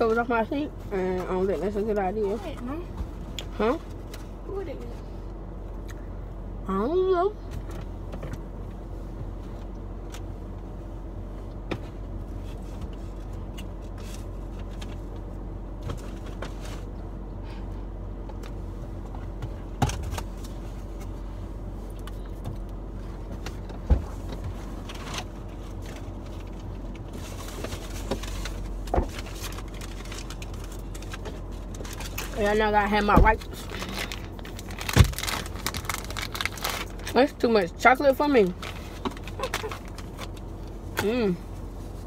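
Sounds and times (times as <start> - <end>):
car cabin engine hum: 0.0 - 42.0
climate fan drone: 0.0 - 42.0.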